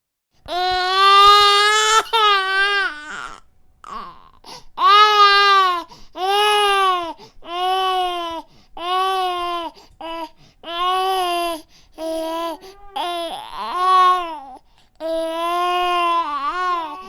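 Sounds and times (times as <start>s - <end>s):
infant crying: 0.5s - 17.0s.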